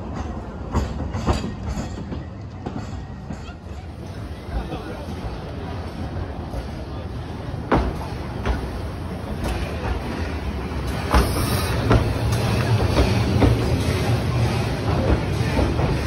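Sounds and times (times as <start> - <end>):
steam train running: 0.0 - 16.0.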